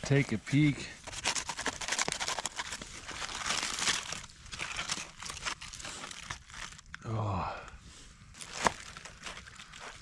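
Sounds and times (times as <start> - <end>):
food wrapping crinkling: 0.0 - 7.0, 8.3 - 10.0.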